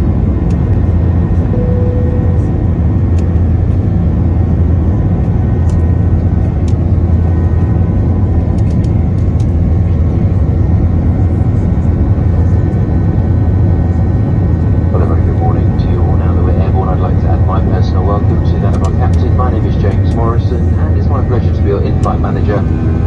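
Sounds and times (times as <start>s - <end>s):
airplane cabin engine hum: 0.0s - 23.0s.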